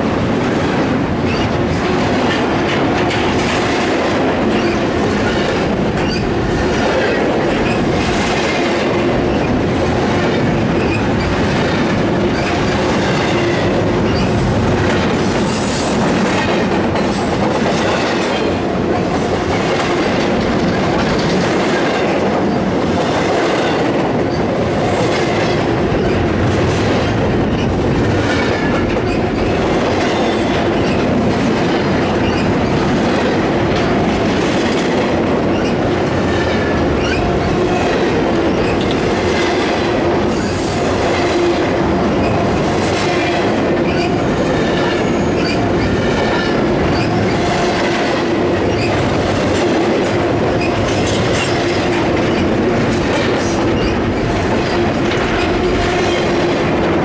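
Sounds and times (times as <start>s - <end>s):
steel wheels clattering over rail: 0.0s - 57.0s.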